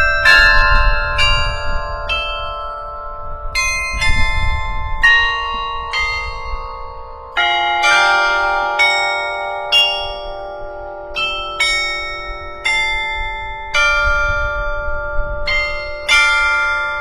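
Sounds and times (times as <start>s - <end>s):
tuned bells playing melody: 0.0s - 17.0s.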